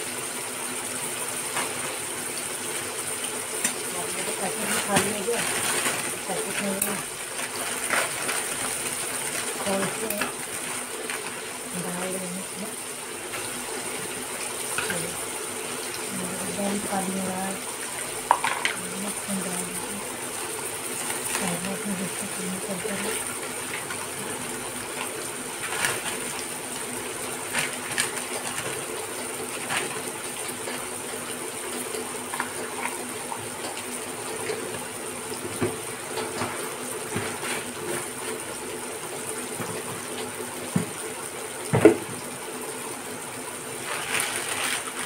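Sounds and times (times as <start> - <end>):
vegetables frying sizzle: 0.0 - 45.0.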